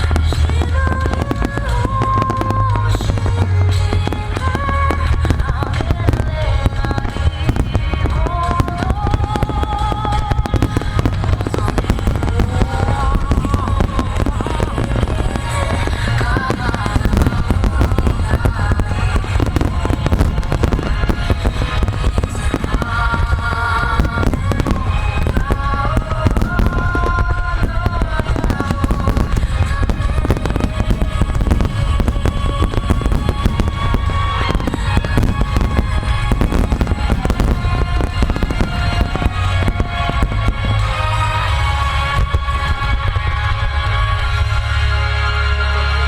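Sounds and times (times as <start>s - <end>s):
fireworks bursting and crackling: 0.0s - 46.0s
music with melody: 0.0s - 46.0s.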